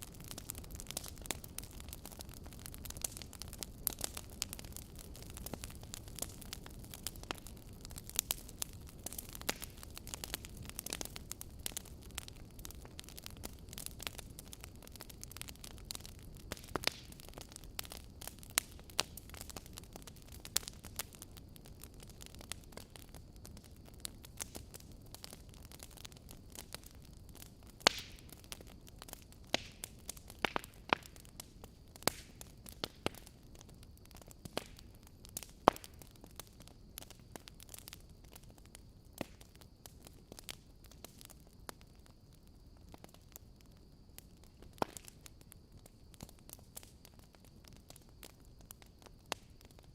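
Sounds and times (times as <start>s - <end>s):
fire low rumble: 0.0s - 49.9s
wood fire crackling: 0.0s - 49.9s.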